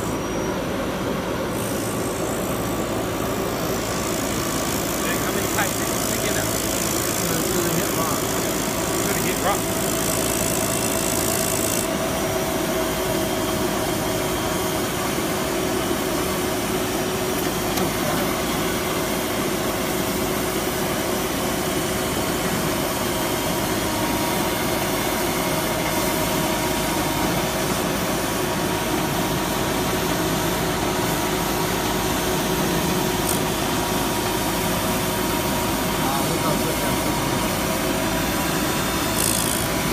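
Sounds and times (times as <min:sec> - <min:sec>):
drill rig running: 0:00.0 - 0:39.9.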